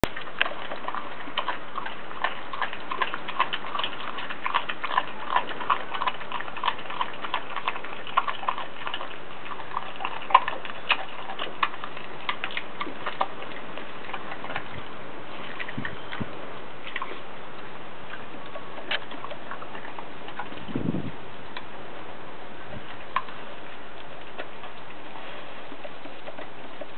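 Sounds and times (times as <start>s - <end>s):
dog chewing and licking: 0.0s - 22.0s, 22.6s - 26.9s.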